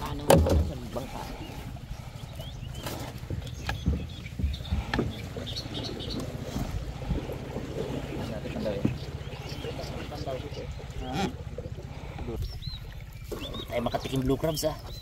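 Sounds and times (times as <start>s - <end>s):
knocks and thumps on boat: 0.0s - 15.0s.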